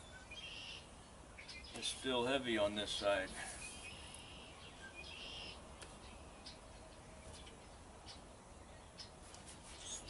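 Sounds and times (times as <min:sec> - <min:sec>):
bird chirping: 0:00.0 - 0:02.2, 0:02.9 - 0:10.0.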